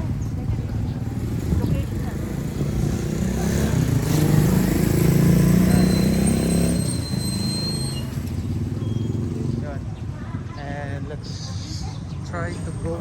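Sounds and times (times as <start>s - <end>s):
motorcycle passing by: 0.0s - 11.1s.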